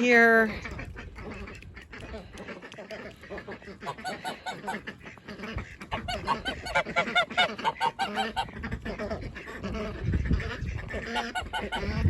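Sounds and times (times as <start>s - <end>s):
geese honking: 0.1s - 12.0s.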